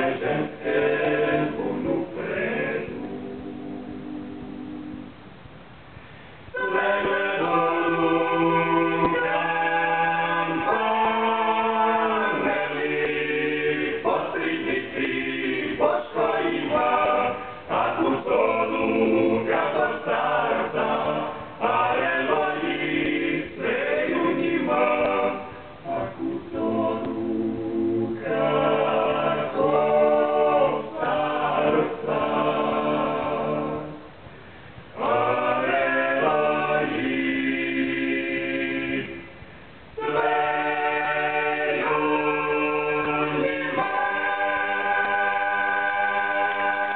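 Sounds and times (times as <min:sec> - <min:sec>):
men singing a cappella: 0:00.0 - 0:03.2, 0:06.6 - 0:34.0, 0:35.0 - 0:39.2, 0:40.0 - 0:46.9.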